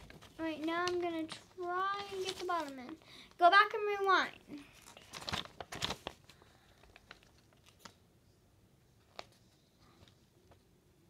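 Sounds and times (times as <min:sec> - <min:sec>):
paper rustling and crinkling: 0:00.0 - 0:03.2, 0:04.0 - 0:08.0, 0:09.0 - 0:10.6.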